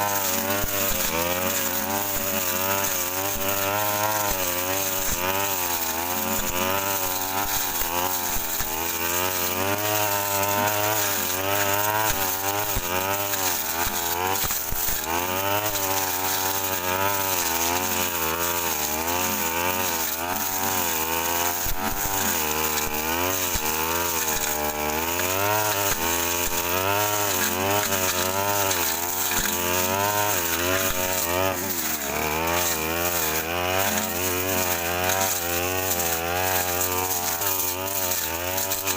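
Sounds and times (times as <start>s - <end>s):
brush cutter engine at high revs: 0.0s - 38.9s.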